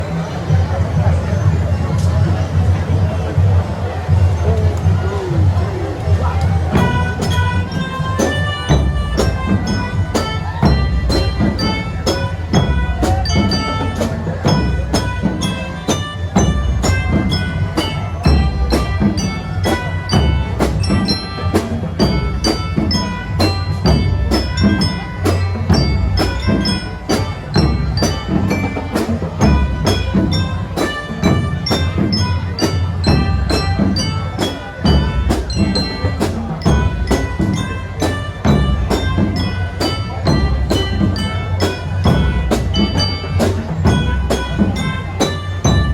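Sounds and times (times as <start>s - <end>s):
mallet percussion melody: 0.0s - 45.9s
marching band drums: 0.0s - 45.9s.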